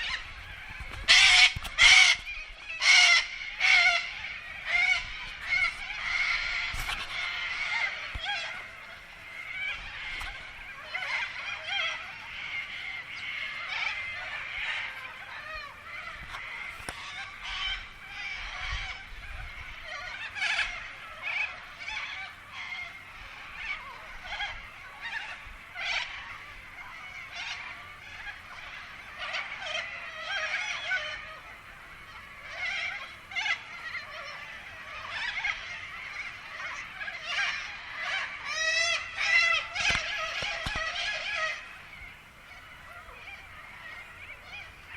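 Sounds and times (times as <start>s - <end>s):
flock of birds chattering: 0.0s - 44.9s
loud bird squawks: 0.0s - 44.9s.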